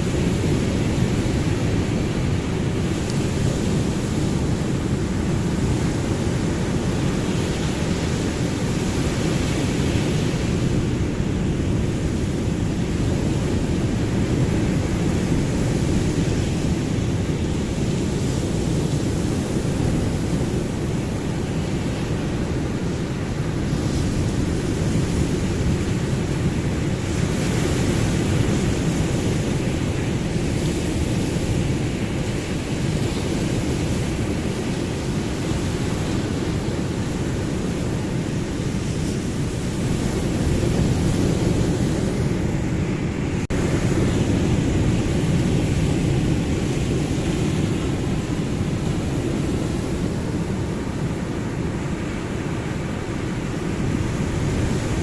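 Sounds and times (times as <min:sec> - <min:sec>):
ocean waves rushing: 0:00.0 - 0:55.0.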